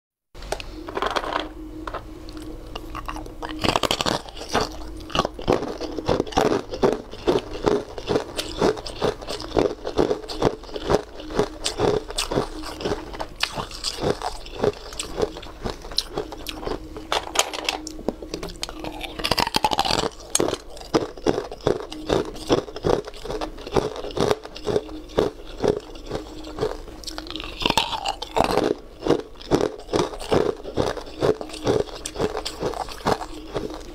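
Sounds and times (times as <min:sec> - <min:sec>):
ice crunching between teeth: 0:02.3 - 0:17.2, 0:17.8 - 0:33.9.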